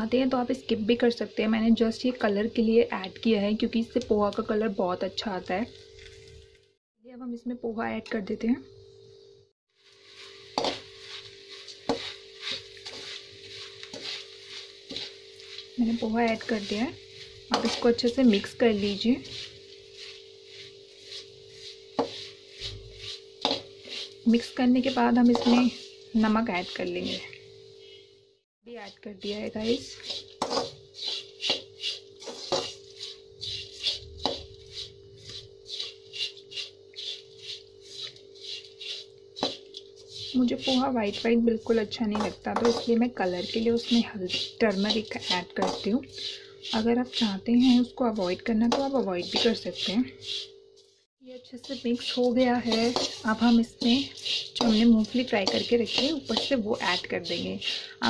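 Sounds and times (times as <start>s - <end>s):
spatula stirring frying rice: 9.7s - 28.0s, 28.7s - 58.0s
metal spoon scraping in pan: 9.8s - 28.0s, 28.8s - 58.0s.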